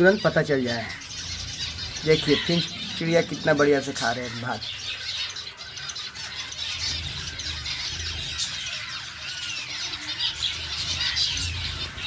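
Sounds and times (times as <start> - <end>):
finches chattering: 0.0 - 12.0.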